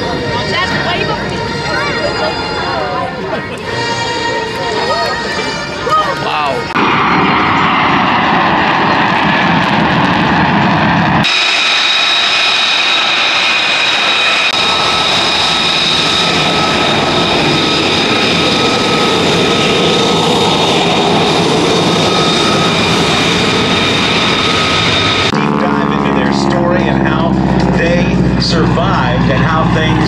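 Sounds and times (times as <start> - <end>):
aircraft engine noise: 0.0 - 30.0
high-pitched engine whine: 0.0 - 30.0.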